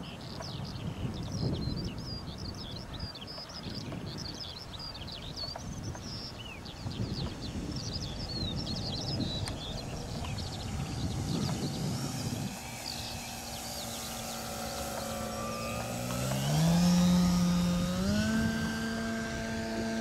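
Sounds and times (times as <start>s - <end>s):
small birds chirping and trilling: 0.0s - 20.0s
wind rumble on microphone: 0.0s - 20.0s.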